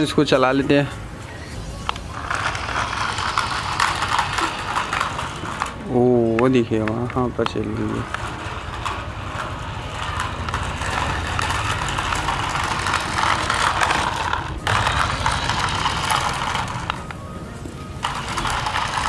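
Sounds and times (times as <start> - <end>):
toy motor and gearbox whirring: 0.0 - 19.0.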